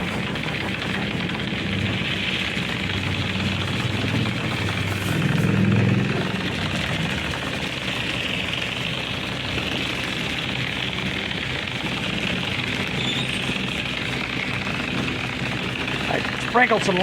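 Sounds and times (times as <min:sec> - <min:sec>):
pump motor humming: 0:00.0 - 0:17.0.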